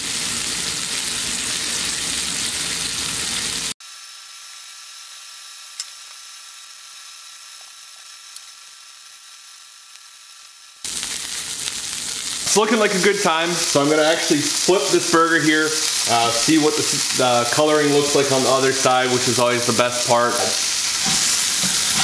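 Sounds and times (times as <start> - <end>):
burger patty sizzling: 0.0 - 22.0.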